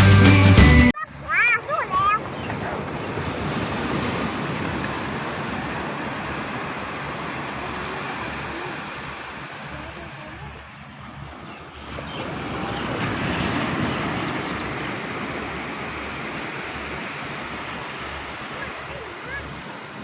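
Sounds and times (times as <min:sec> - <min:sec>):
sea waves washing onto beach: 0:01.2 - 0:20.0.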